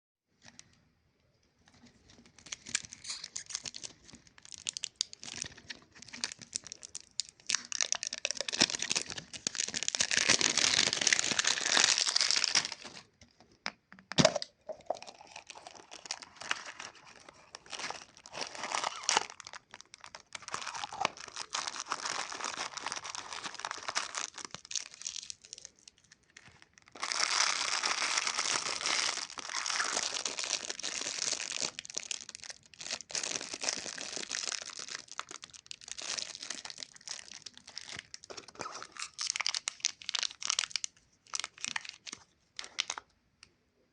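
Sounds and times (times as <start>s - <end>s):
plastic wrappers crinkling: 1.7s - 13.1s, 14.2s - 43.0s.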